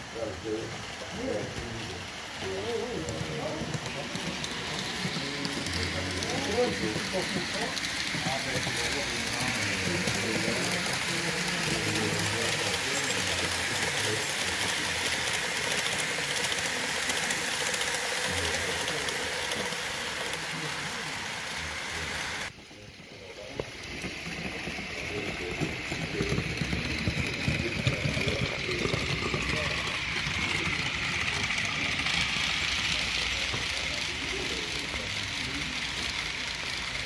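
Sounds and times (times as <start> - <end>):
model train rolling on track: 0.0 - 37.0
voices murmuring: 0.0 - 37.0.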